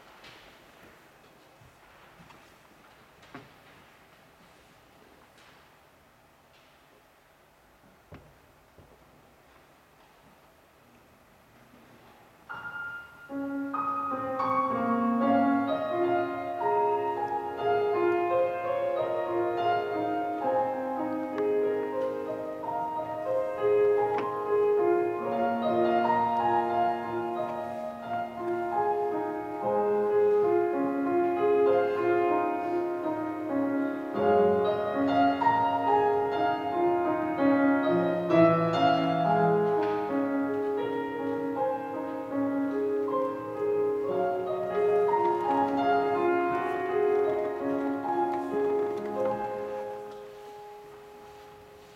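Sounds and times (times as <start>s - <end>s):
solo grand piano: 0.0s - 51.9s.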